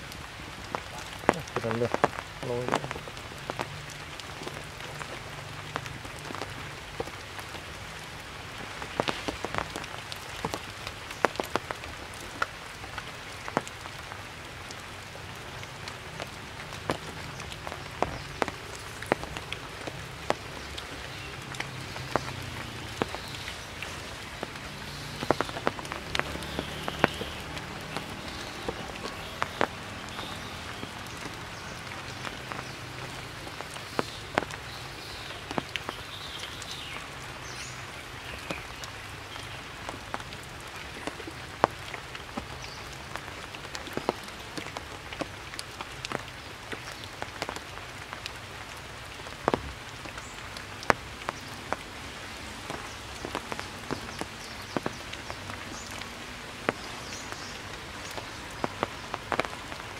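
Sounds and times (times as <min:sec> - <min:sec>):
rain falling through foliage: 0:00.0 - 0:59.9.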